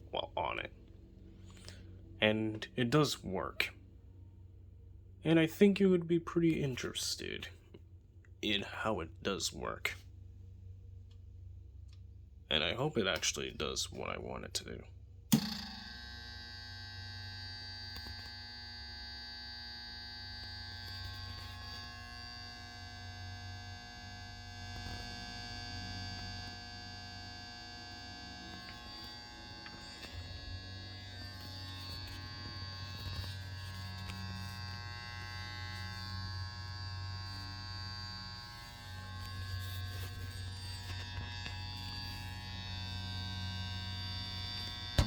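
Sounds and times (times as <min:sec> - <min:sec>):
transformer mains hum and buzz: 0:00.0 - 0:45.0.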